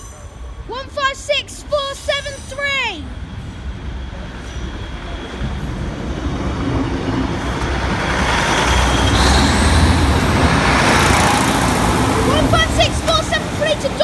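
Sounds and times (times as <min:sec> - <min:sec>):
diesel train passing: 0:00.0 - 0:14.0.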